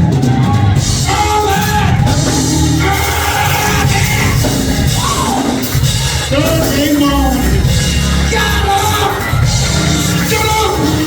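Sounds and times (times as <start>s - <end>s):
organ and drums playing: 0.0s - 11.0s
preacher singing and shouting: 0.0s - 11.0s
voices rising: 0.0s - 11.0s.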